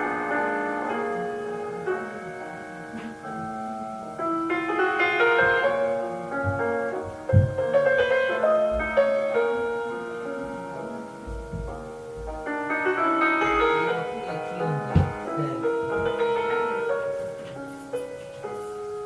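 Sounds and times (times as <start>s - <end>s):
slow classical piano: 0.0s - 19.0s.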